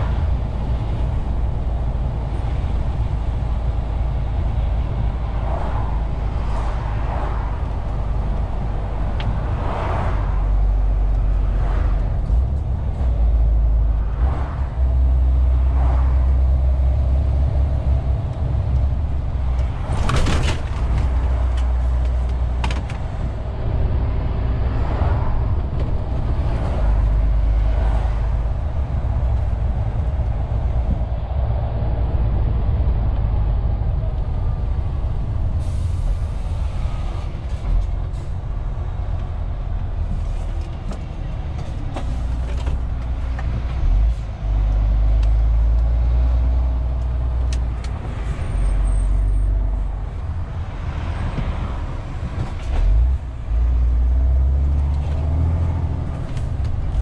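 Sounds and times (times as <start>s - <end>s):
diesel truck engine rumbling: 0.0s - 57.0s
road noise: 0.0s - 57.0s.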